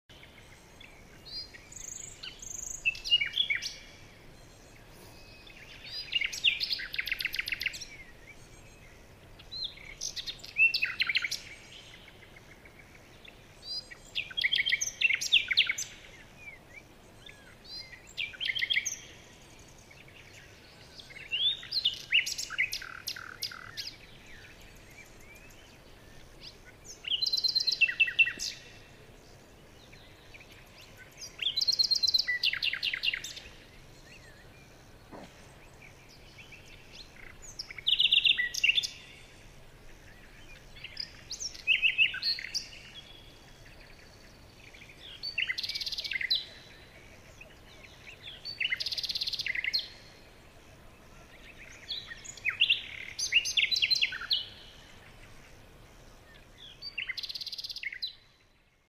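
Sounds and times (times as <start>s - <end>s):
bird chirps and trills: 0.1s - 50.4s
faint steady hiss: 0.1s - 58.9s.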